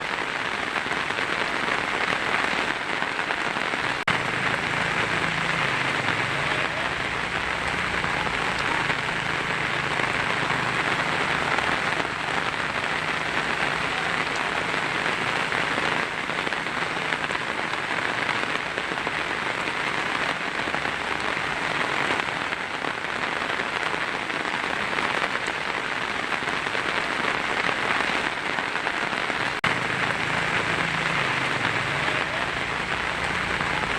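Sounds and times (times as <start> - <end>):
heavy rain on a tin roof: 0.0 - 33.9.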